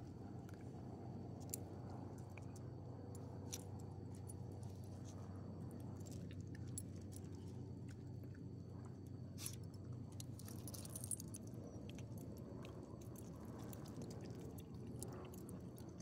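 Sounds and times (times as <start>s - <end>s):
faint low background hum: 0.0s - 16.0s.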